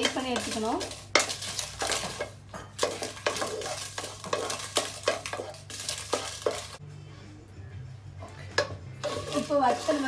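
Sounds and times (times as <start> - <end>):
chillies frying: 0.0 - 6.8, 8.3 - 10.0
spatula scraping chillies in pot: 0.0 - 6.8, 8.3 - 10.0.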